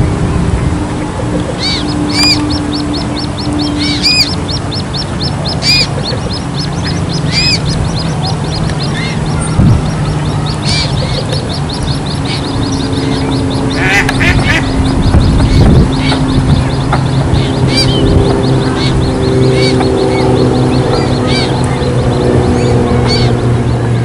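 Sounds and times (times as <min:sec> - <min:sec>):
low wind-like noise: 0:00.0 - 0:24.0
chicks peeping: 0:01.2 - 0:24.0.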